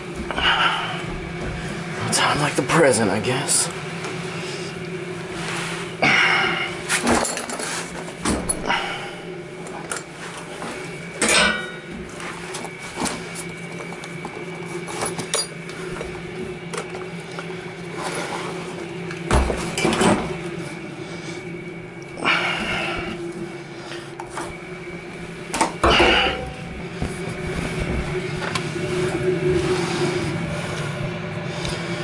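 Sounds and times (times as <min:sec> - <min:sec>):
faint high whine: 0:00.0 - 0:32.0
steady mechanical hum: 0:00.0 - 0:32.0.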